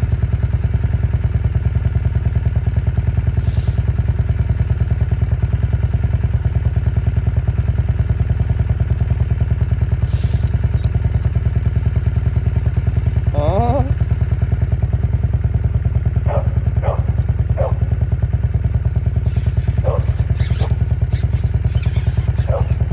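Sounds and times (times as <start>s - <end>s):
motorcycle engine running steadily: 0.0s - 22.9s.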